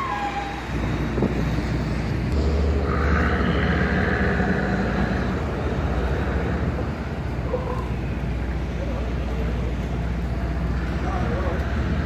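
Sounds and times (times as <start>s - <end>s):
diesel engine running hard: 0.0s - 12.0s.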